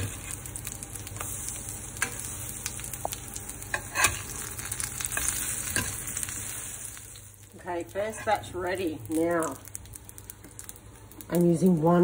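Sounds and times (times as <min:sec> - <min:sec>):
cakes sizzling in frying pan: 0:00.0 - 0:12.0.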